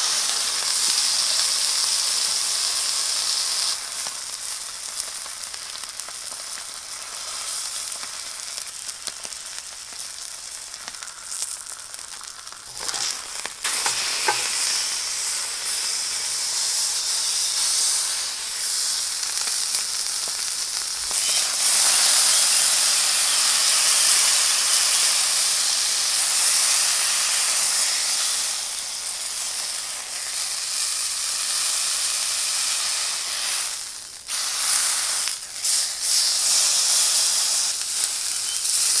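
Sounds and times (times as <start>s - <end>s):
steak sizzling in skillet: 0.0s - 39.0s.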